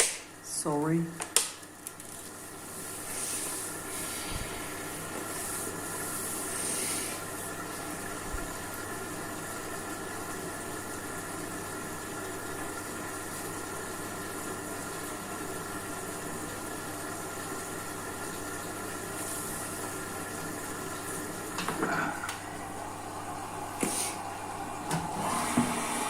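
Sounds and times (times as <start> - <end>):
washing machine motor hum: 1.7 - 26.0.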